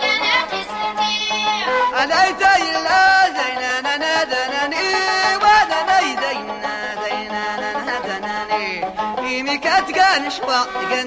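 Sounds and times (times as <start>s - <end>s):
folk music with ornamented melody: 0.0s - 11.0s.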